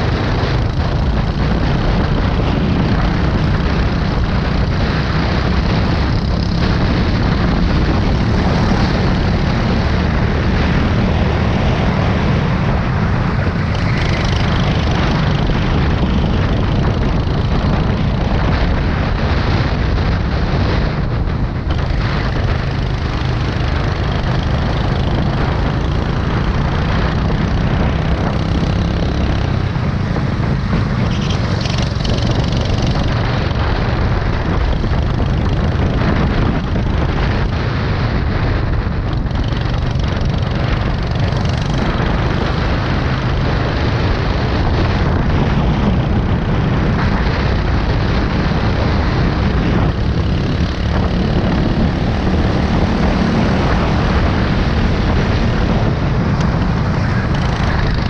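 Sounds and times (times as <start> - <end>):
go-kart engine running: 0.0 - 58.0
wind noise: 0.0 - 58.0.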